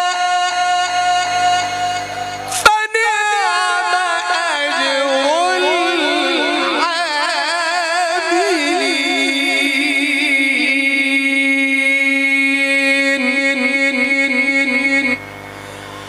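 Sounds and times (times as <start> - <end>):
man reciting melodically: 0.0 - 15.3.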